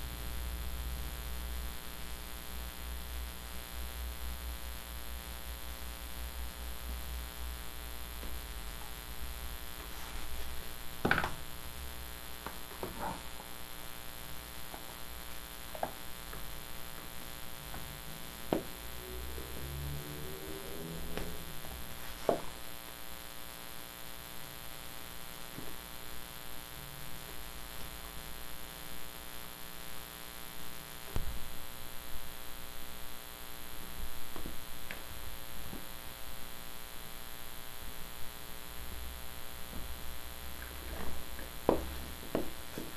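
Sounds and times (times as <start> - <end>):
electrical hum: 0.0 - 42.9.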